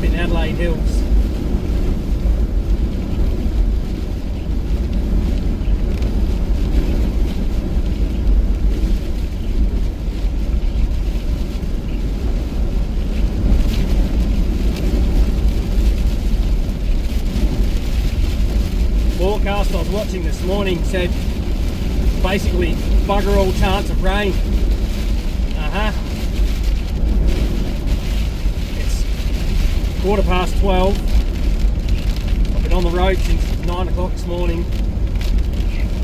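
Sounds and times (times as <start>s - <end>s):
car driving through heavy rain: 0.0s - 36.0s.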